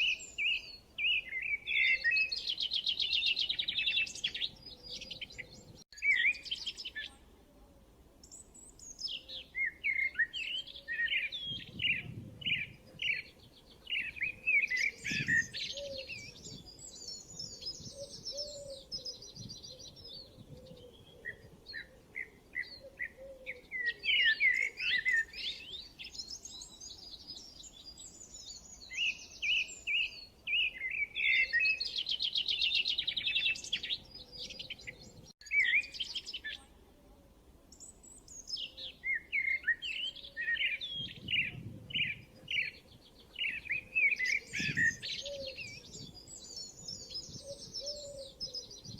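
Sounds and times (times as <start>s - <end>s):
birds singing and chirping: 0.0s - 7.2s, 8.2s - 36.7s, 37.7s - 48.9s.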